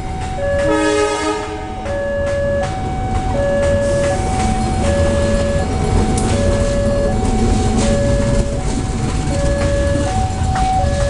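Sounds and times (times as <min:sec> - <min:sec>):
diesel locomotive rumble: 0:00.0 - 0:11.0
level-crossing alarm two tones: 0:00.0 - 0:11.0.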